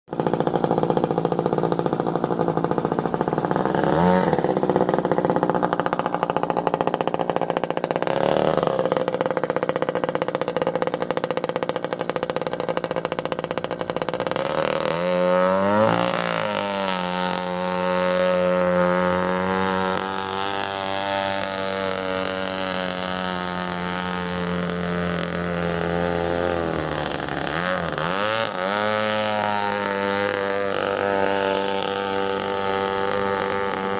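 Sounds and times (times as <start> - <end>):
two-stroke engine high revs: 0.1 - 33.9.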